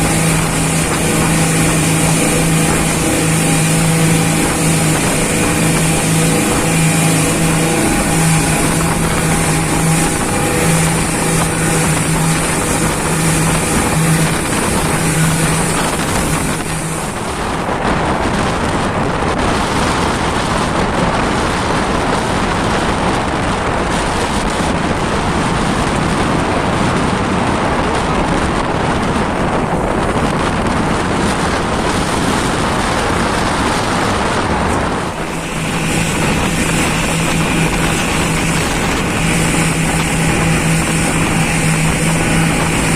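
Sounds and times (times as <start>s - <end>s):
motorboat engine drone: 0.0s - 42.9s
rushing wind and water: 0.0s - 42.9s.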